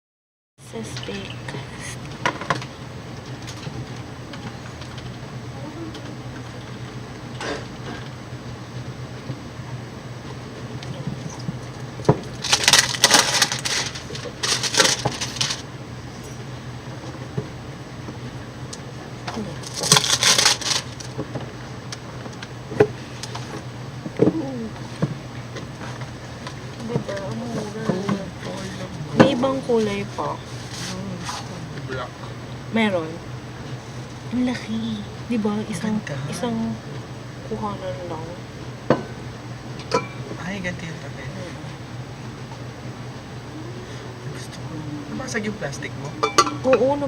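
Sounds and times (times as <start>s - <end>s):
steady low hum: 0.6s - 47.0s.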